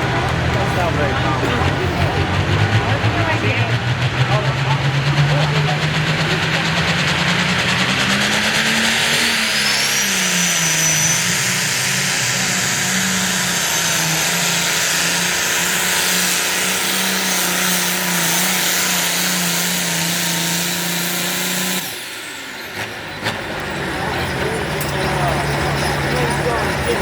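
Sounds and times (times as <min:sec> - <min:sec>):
diesel tractor engine at full throttle: 0:00.0 - 0:27.0.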